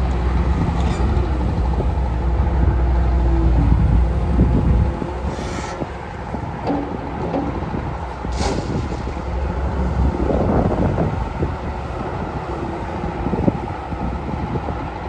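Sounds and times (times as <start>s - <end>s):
excavator diesel engine under load: 0.0s - 15.0s.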